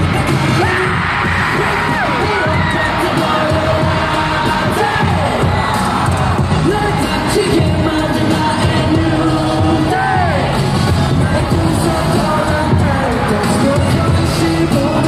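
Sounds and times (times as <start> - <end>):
audience voices: 0.0 - 15.0
dance track with singing over loudspeakers: 0.0 - 15.0.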